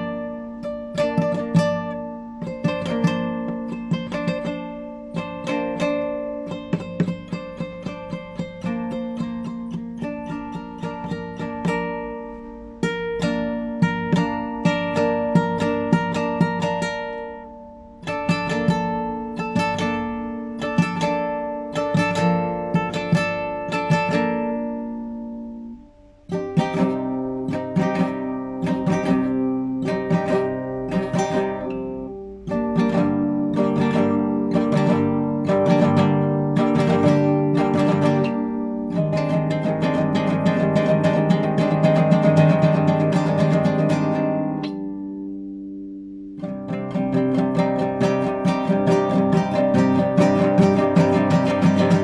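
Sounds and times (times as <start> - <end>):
classical guitar playing: 0.0 - 52.0.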